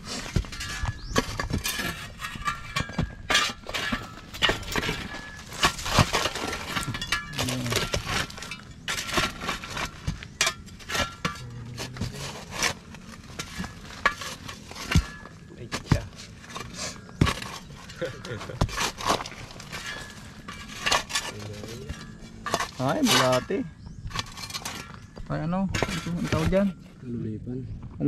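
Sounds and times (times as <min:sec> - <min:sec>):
shovel striking dry soil: 0:00.0 - 0:26.7
dirt clods crumbling: 0:00.0 - 0:27.1.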